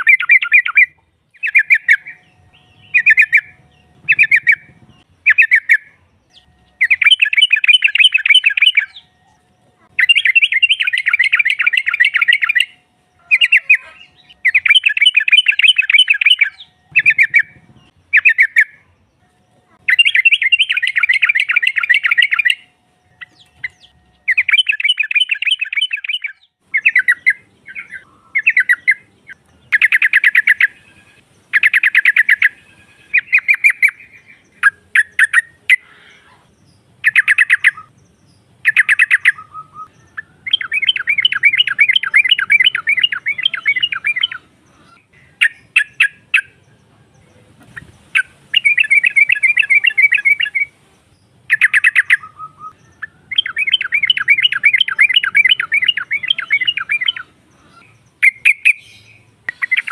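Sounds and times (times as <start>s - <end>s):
bird chattering trills: 0.0s - 38.0s, 38.6s - 46.9s, 47.7s - 50.8s, 51.4s - 59.9s.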